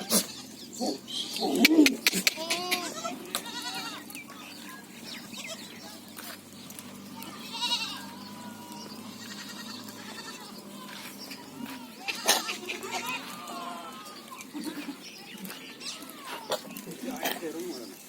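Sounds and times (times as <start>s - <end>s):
goats bleating: 0.0s - 17.6s.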